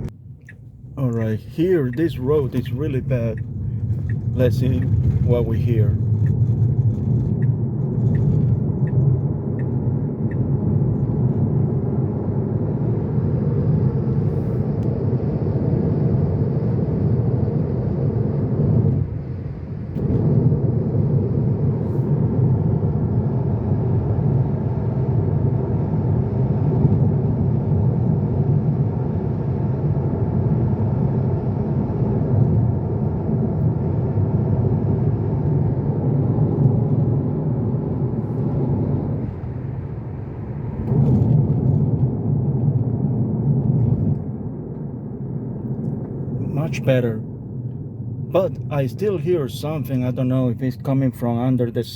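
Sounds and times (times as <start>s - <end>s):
road and tyre rumble in car: 0.0s - 51.9s.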